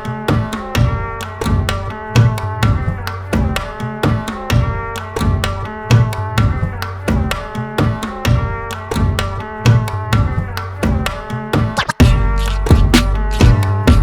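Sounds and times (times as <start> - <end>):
steady drum beat: 0.0 - 14.0.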